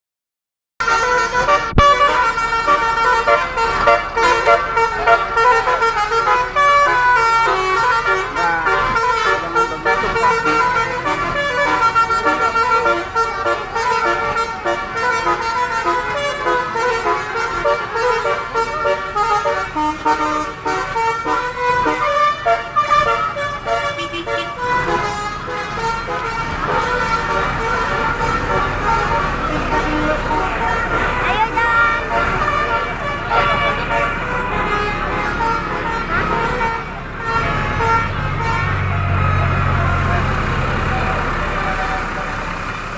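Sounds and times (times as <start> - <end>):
musical air horns playing tunes: 0.8 - 42.9.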